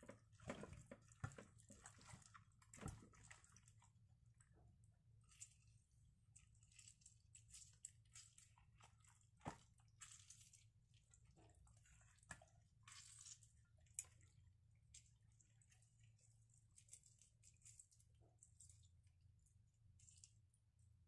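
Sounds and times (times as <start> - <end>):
wet squishing of raw chicken: 0.0 - 21.0.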